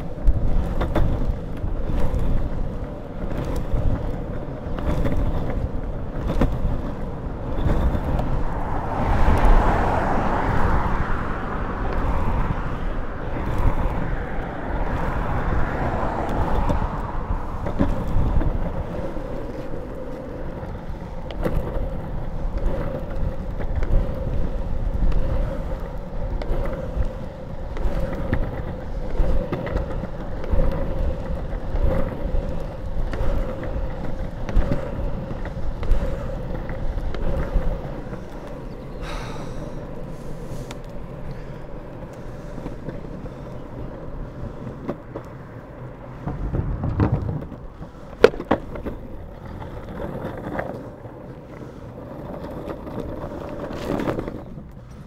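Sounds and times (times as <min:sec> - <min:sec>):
longboard wheels rolling on asphalt: 0:00.0 - 0:55.0.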